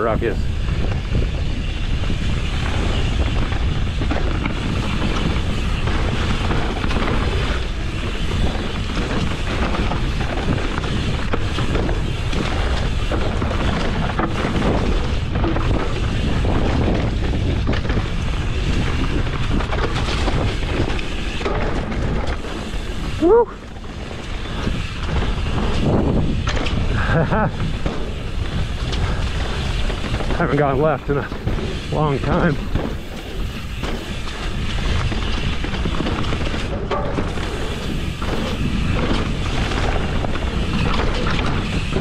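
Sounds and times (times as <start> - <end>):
bike tyres rumbling on dirt trail: 0.0 - 42.0
wind rushing over microphone: 0.0 - 42.0.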